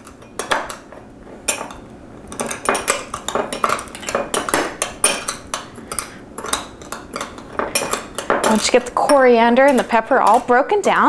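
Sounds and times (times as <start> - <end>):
spoon grinding in glass bowl: 1.5 - 11.0.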